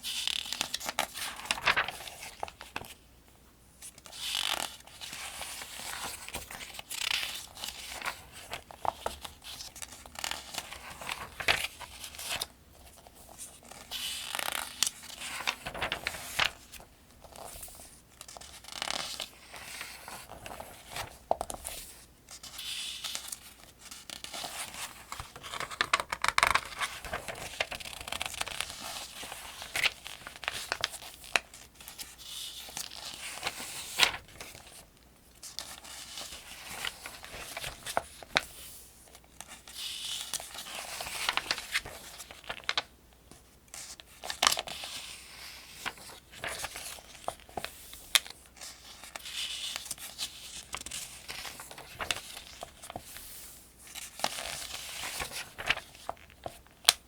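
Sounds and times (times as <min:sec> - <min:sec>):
pages being turned: 0:00.1 - 0:03.0, 0:03.8 - 0:34.8, 0:35.5 - 0:42.9, 0:43.7 - 0:57.0.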